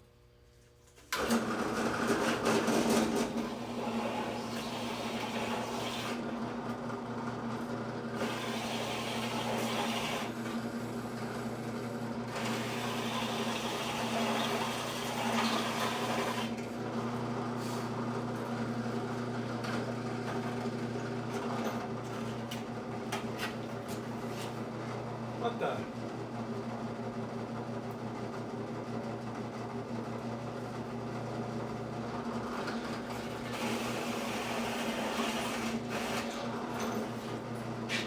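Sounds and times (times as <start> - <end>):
drill press motor humming: 0.9 - 23.3, 24.6 - 38.0.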